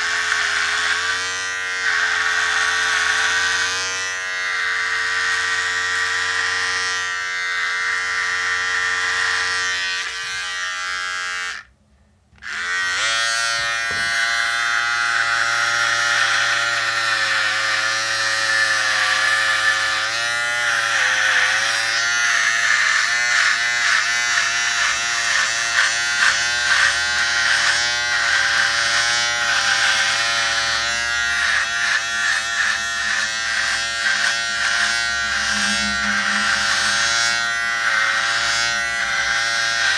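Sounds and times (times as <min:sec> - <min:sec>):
electric razor buzzing: 0:00.0 - 0:11.7, 0:12.4 - 0:39.9.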